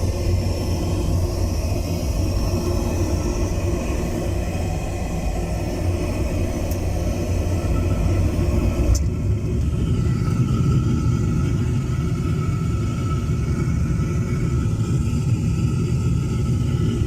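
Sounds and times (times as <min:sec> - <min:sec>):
boiler flue rumbling: 0:00.0 - 0:17.0.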